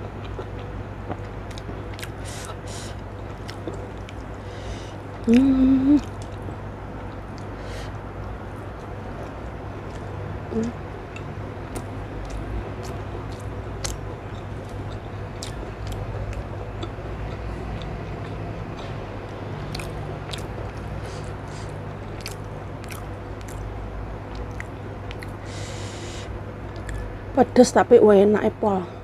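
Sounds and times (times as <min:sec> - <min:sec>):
chewing and biting food: 0:00.0 - 0:07.6, 0:08.2 - 0:25.4
steady low hum: 0:00.0 - 0:29.0.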